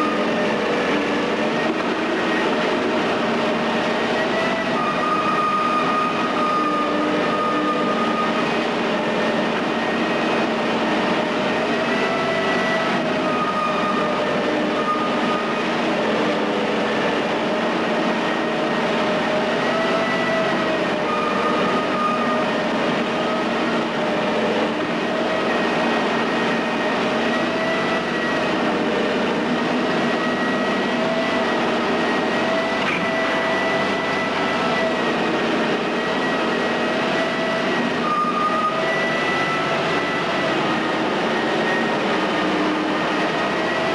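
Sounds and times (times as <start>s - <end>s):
excavator engine running: 0.0s - 43.9s
wavering machine whine: 0.0s - 43.9s.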